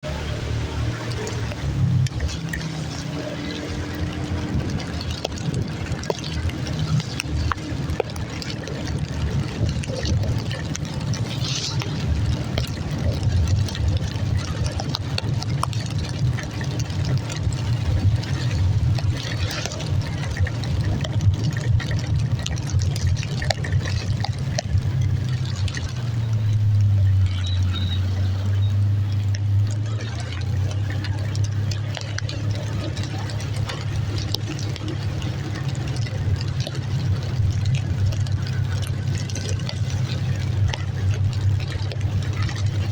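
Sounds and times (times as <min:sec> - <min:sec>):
engine running with low hum: 0:00.0 - 0:42.9
rain: 0:00.0 - 0:42.9
steady low rumble: 0:00.0 - 0:42.9
trickling water: 0:00.0 - 0:42.9
drip-like ticks: 0:00.4 - 0:42.9.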